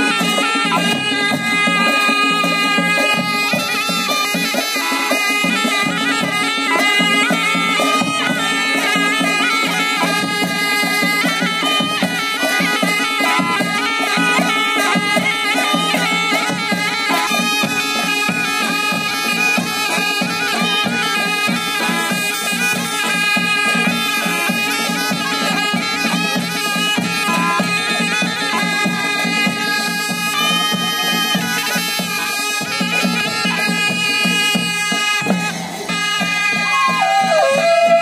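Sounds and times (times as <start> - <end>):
barrel drum beating: 0.0 - 37.0
reedy horn melody: 0.0 - 38.0.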